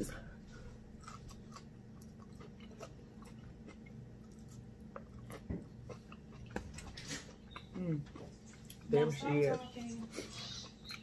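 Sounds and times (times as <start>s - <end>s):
low steady hum: 0.0s - 11.0s
close-up chewing: 0.4s - 9.2s, 9.8s - 11.0s.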